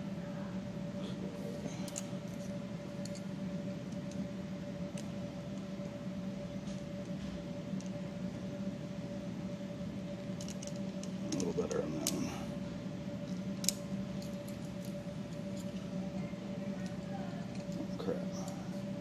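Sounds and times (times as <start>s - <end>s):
two-tone machine hum: 0.0s - 19.0s.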